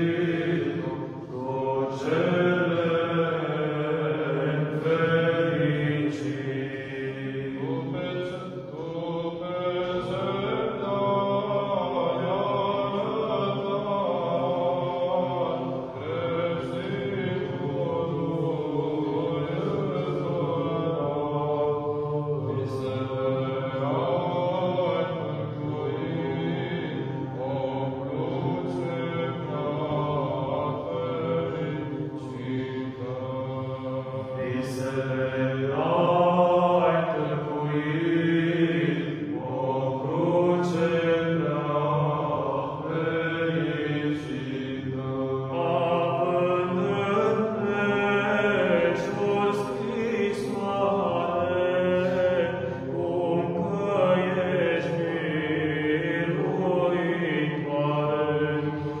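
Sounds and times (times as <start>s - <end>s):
male choir chanting a cappella: 0.0s - 59.0s.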